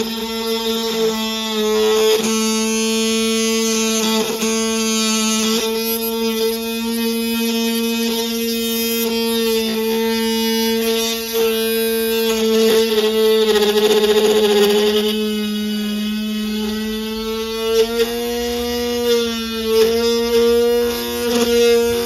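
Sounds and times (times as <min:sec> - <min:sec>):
drill motor whine: 0:00.0 - 0:22.0.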